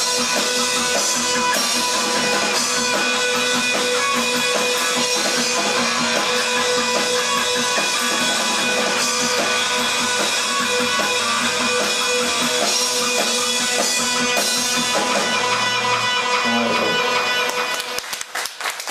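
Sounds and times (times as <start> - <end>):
strummed electric guitars: 0.0 - 18.3
drums: 0.0 - 18.9.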